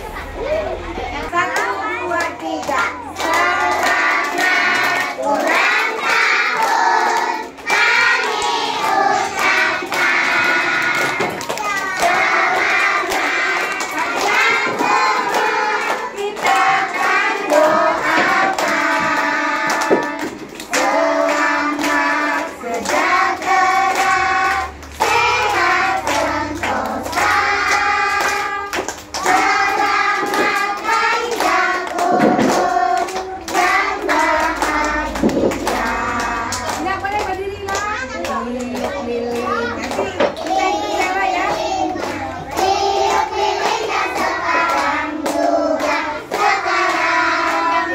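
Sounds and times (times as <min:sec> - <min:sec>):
hands clapping: 0:01.5 - 0:47.9
children singing: 0:01.9 - 0:36.9, 0:38.0 - 0:47.9.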